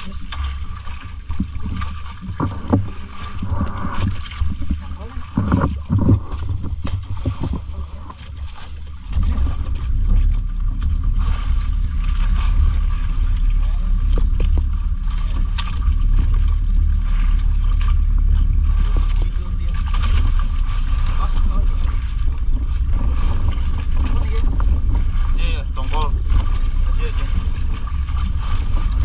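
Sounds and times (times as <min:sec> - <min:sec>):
boat engine rumbling: 0:00.0 - 0:29.0
water noise: 0:00.0 - 0:29.0
wind: 0:00.0 - 0:29.0.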